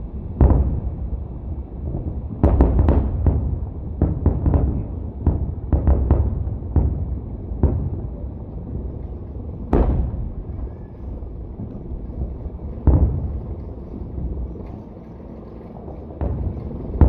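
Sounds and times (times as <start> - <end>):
fireworks booming: 0.0 - 14.8, 15.8 - 17.0
low rolling rumble: 0.0 - 17.0.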